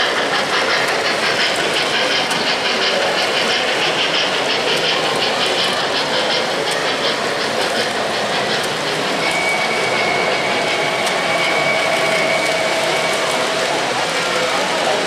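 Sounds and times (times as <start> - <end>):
model locomotive whine: 0.0 - 15.0
model trains rumbling: 0.0 - 15.0.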